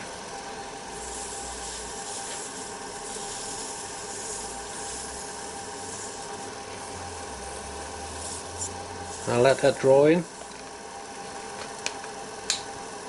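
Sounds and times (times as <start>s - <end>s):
wood lathe motor whine: 0.0s - 13.0s.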